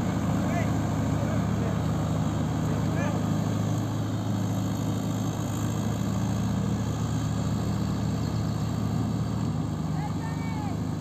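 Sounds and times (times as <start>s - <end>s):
combine harvester engine running: 0.0s - 11.0s
tractor diesel engine running: 0.0s - 11.0s.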